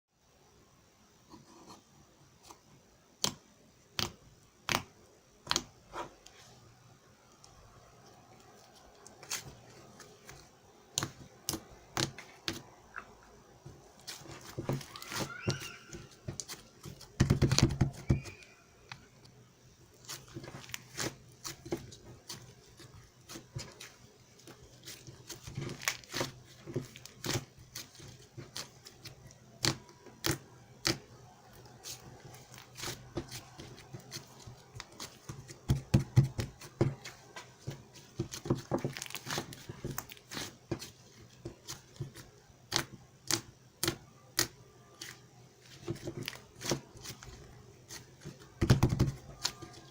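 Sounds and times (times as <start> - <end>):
crinkling and rustling: 7.3 - 49.9.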